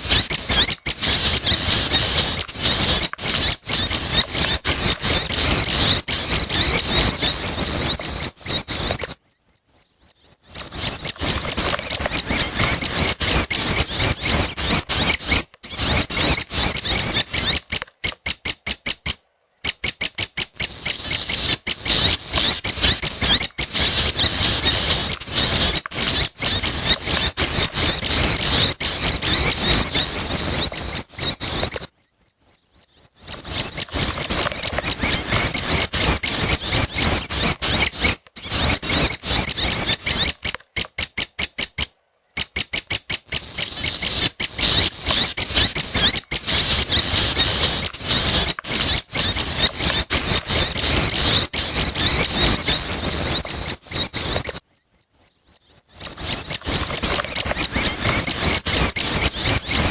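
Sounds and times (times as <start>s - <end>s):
bird chicks calling: 0.0s - 59.9s.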